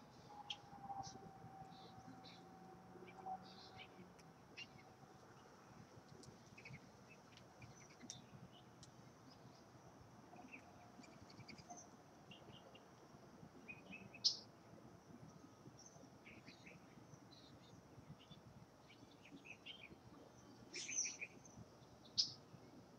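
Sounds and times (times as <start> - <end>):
wild birds chirping: 0.0 - 22.9.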